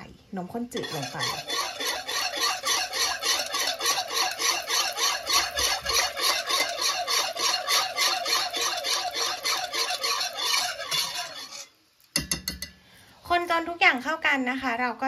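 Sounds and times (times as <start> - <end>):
utensil stirring and scraping bowl: 0.4 - 12.6.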